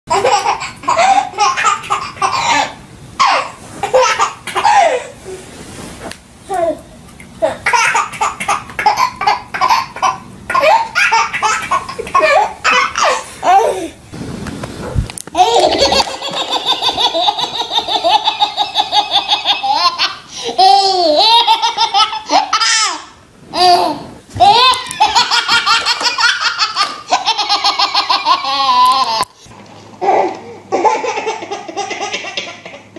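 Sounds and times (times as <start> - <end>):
baby laughing: 0.1 - 5.2, 7.4 - 14.0, 15.3 - 29.3, 30.0 - 32.9.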